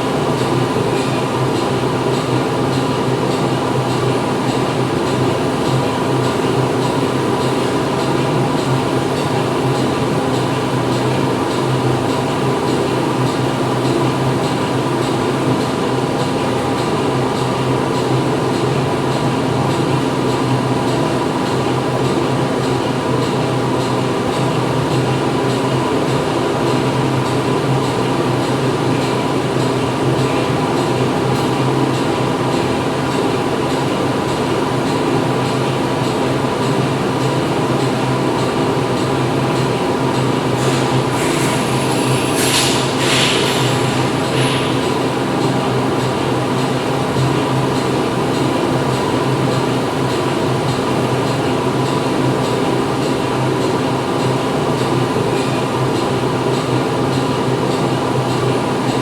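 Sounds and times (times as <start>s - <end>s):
factory machinery hum: 0.0s - 59.0s.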